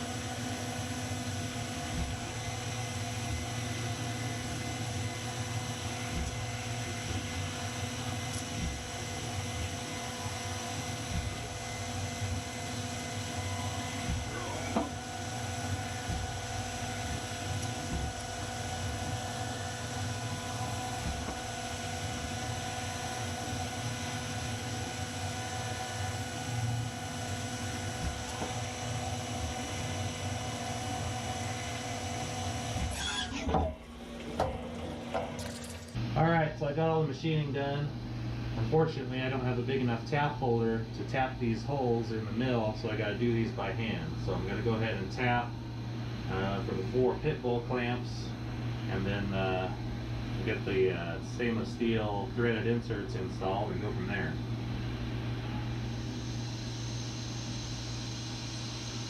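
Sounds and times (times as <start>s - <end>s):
milling machine humming and whining: 0.0s - 59.0s.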